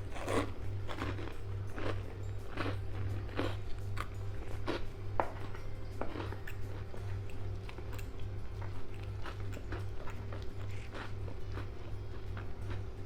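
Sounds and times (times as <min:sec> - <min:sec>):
crunchy chewing and biting: 0:00.0 - 0:13.0
steady low hum: 0:00.0 - 0:13.0.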